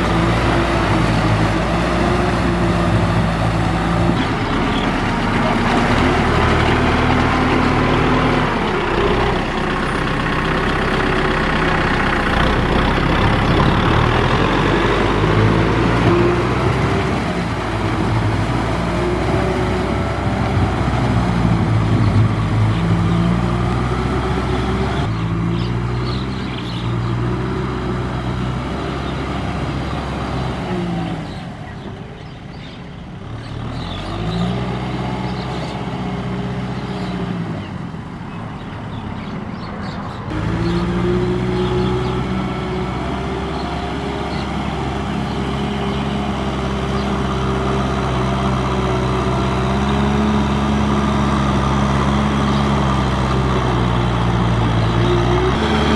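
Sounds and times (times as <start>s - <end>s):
tractor engine revving: 0.0s - 55.9s.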